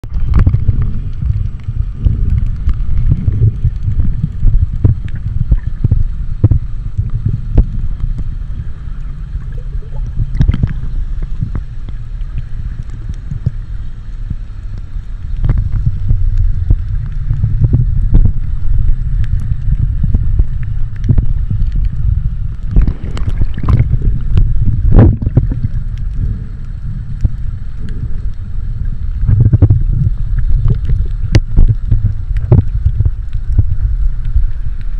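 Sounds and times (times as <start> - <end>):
low rumble on microphone: 0.0 - 34.9
muffled water movement: 0.0 - 34.9.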